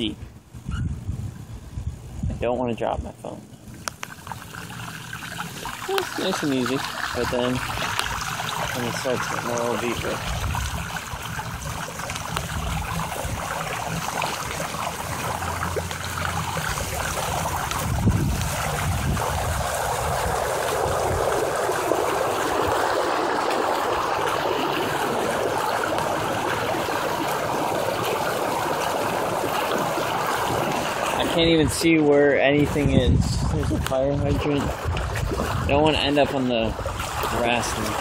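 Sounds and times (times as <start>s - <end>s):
water splashing around wheels: 3.5s - 38.0s.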